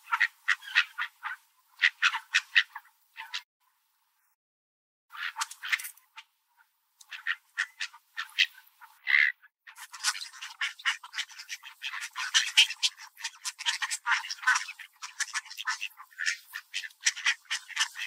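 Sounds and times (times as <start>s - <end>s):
ducks quacking: 0.0s - 3.4s, 5.1s - 6.0s, 7.0s - 18.0s.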